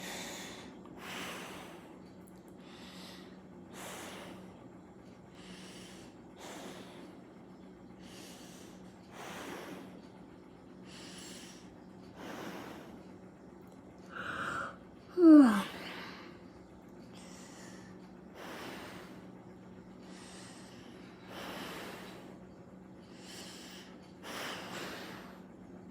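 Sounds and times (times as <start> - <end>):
person breathing nervously: 0.0 - 13.2, 14.0 - 25.6.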